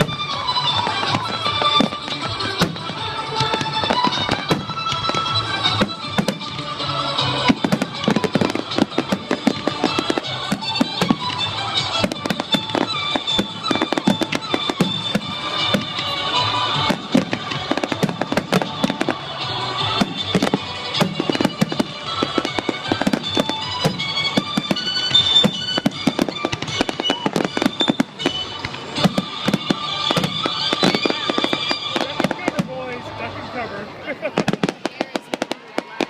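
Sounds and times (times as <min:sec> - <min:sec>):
music playing: 0:00.0 - 0:35.4
fireworks bangs and crackling: 0:00.0 - 0:36.0.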